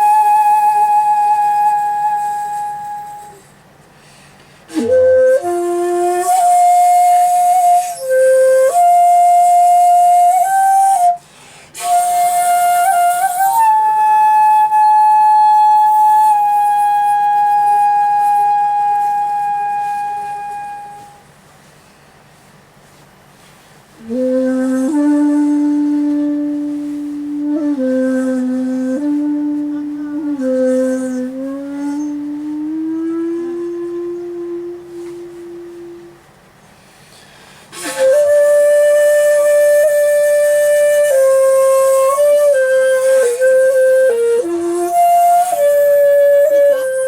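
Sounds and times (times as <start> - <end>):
breathy bamboo flute: 0.0 - 21.7, 22.8 - 47.0.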